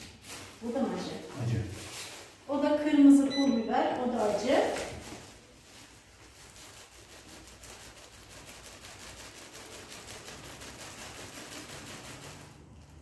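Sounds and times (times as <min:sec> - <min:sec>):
plastic bag crinkling: 0:00.0 - 0:03.1, 0:04.0 - 0:13.0.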